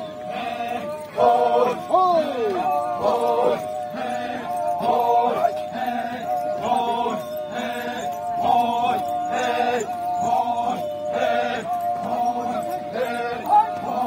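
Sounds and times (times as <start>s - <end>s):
continuously held note: 0.0s - 14.0s
group of voices chanting: 0.0s - 14.0s.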